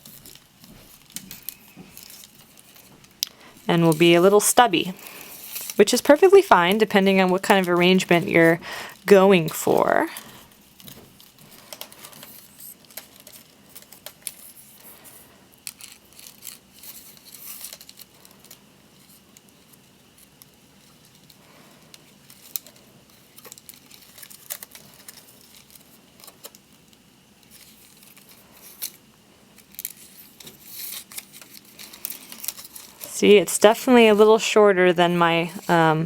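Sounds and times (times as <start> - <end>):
palm strips rustling and crackling: 0.0 - 36.0.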